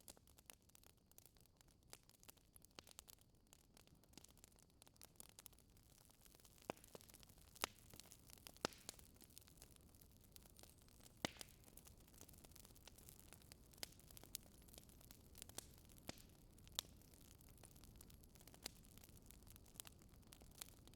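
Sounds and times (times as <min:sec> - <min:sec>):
wood fire crackling: 0:00.2 - 0:20.9.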